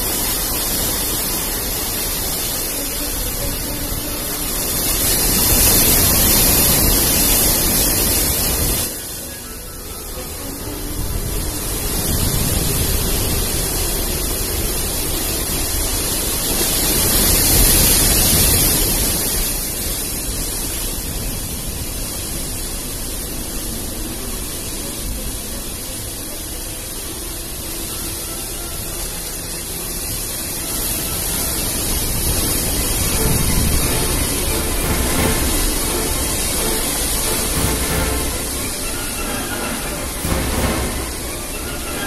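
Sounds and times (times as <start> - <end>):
gale-force wind: 0.0 - 42.0
storm surf: 0.0 - 42.0.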